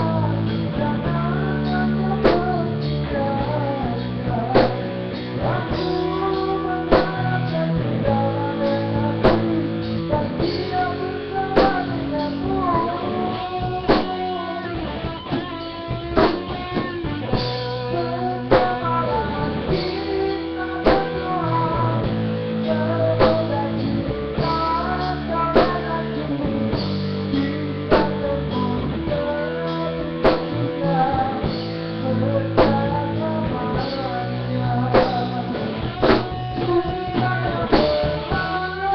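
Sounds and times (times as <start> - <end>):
band playing a song: 0.0 - 38.9
person singing: 0.0 - 38.9.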